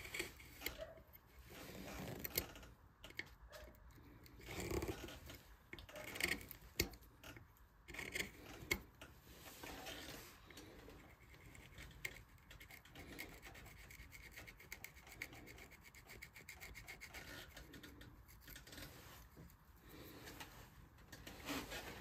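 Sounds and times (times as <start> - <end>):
hand tool scraping wood: 0.0 - 2.5, 4.0 - 22.0.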